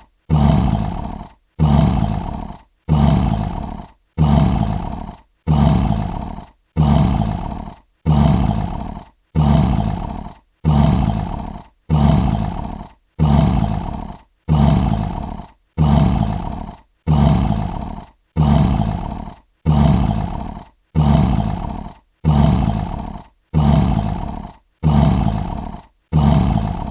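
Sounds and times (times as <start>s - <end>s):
lion roar: 0.3s - 26.9s.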